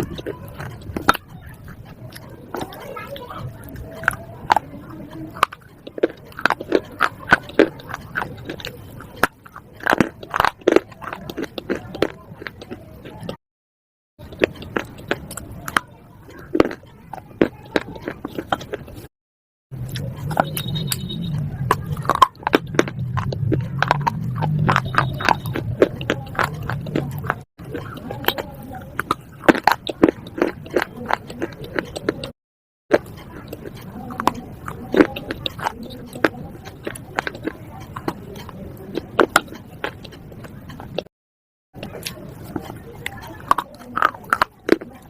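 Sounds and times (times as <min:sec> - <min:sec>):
person chewing slate: 0:00.0 - 0:13.4, 0:14.2 - 0:19.1, 0:19.8 - 0:41.1, 0:41.8 - 0:45.0.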